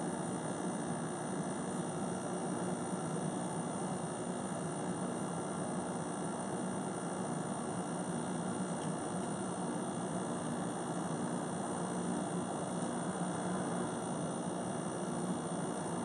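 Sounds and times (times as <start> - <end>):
dehumidifier compressor hum: 0.0 - 16.0.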